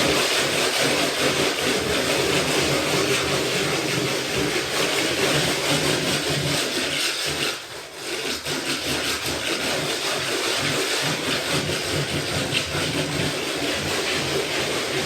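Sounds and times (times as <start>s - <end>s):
trowel scraping plaster on wall: 0.0s - 15.0s.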